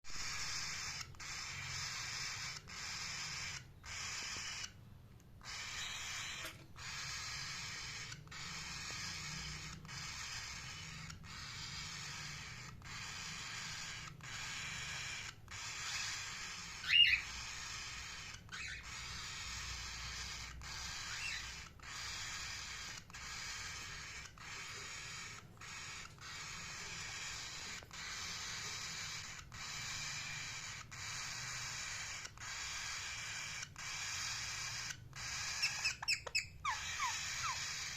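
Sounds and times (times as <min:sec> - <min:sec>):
parrot call: 0:00.1 - 0:04.8, 0:05.4 - 0:37.9
faint chirp: 0:00.1 - 0:37.9.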